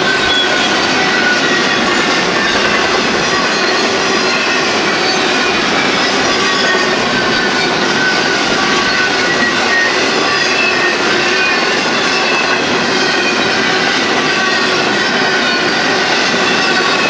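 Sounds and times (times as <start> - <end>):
high wheel squeal: 0.0 - 17.0
train wheels rumbling on rail: 0.0 - 17.0.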